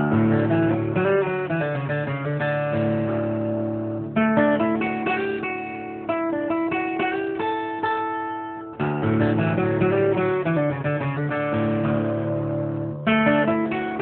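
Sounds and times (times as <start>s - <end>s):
acoustic guitar strumming and picking: 0.0s - 14.0s.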